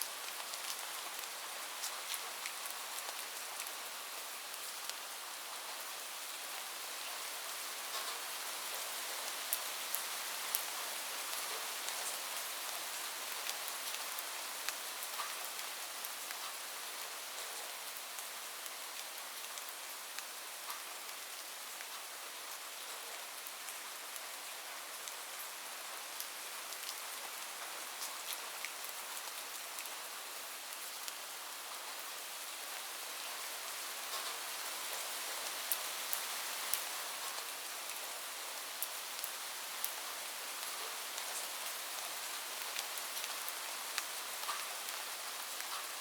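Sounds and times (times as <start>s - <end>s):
rain falling on a roof: 0.0s - 46.0s.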